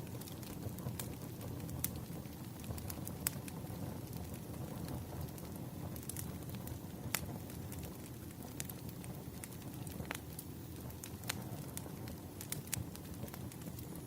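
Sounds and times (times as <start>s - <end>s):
bonfire burning rumble: 0.0s - 14.0s.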